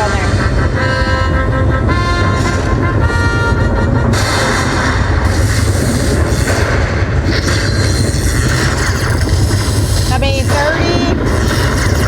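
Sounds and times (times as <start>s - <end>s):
slot machine deep rumbling effect: 0.0s - 12.0s.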